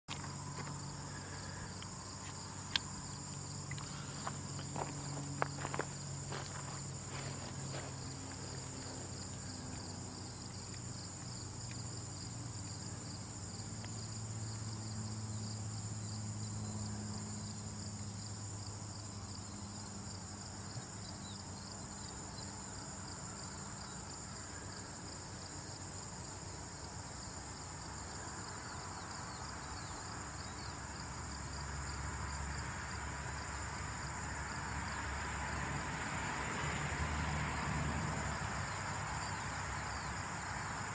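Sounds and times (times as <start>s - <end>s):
insects chirring: 0.1s - 40.9s.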